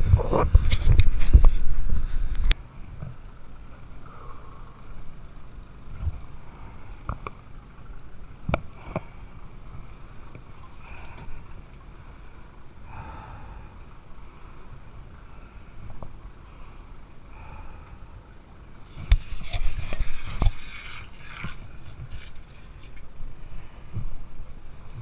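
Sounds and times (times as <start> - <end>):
muffled pump engine rumble: 0.0 - 25.0.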